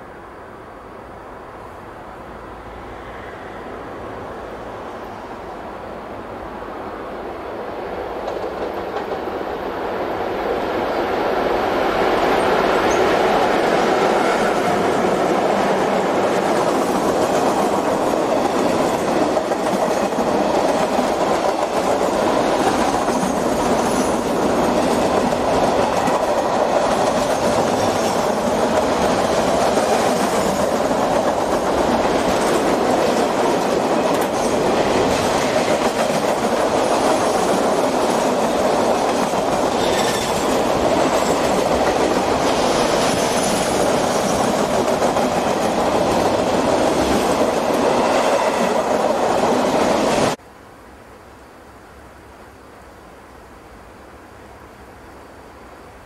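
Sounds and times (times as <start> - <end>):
freight train passing: 0.0 - 50.4.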